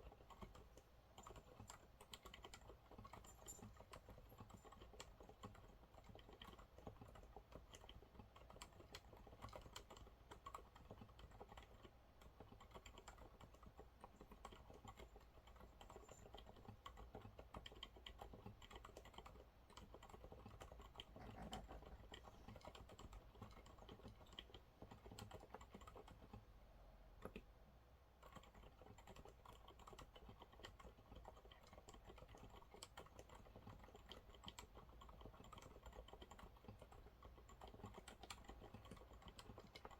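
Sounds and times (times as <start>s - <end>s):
soft keyboard typing: 0.0s - 26.5s, 27.1s - 39.9s.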